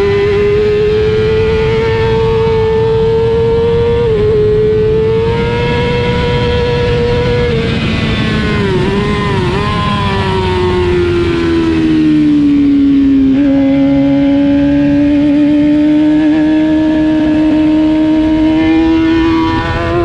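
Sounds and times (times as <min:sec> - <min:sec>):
motorcycle engine running hard: 0:00.0 - 0:20.0.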